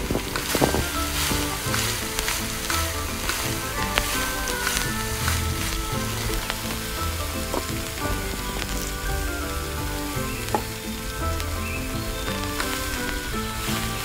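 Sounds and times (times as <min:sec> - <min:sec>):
oil crackling: 0:00.0 - 0:14.0.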